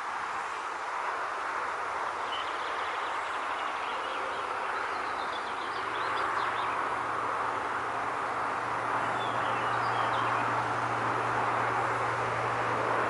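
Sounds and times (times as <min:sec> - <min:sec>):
wind rustling through foliage: 0:00.0 - 0:13.0.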